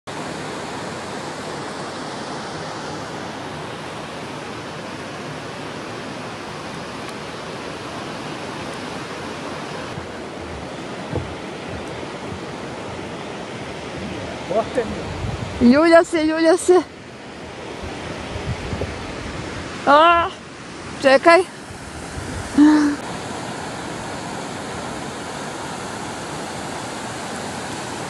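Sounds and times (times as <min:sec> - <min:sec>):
river rapids rushing over rocks: 0:00.1 - 0:28.0.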